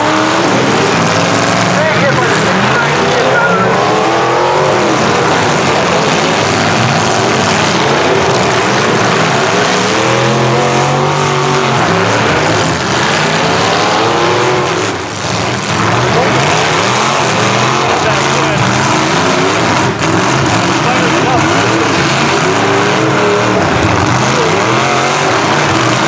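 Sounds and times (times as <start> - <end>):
engines revving: 0.0 - 26.0.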